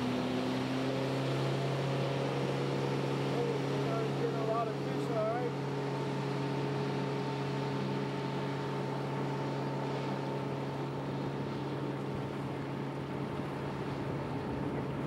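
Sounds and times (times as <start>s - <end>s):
outboard boat motor running: 0.0s - 15.0s.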